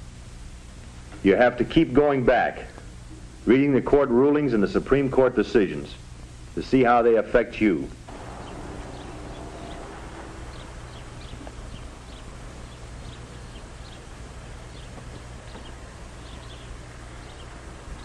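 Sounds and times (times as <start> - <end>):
film soundtrack hum and hiss: 0.0 - 18.0.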